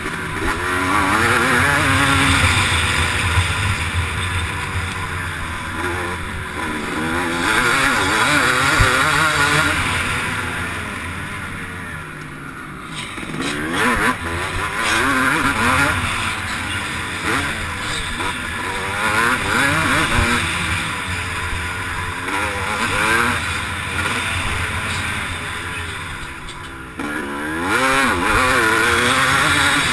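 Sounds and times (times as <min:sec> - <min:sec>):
motocross bike engine revving: 0:00.0 - 0:29.9.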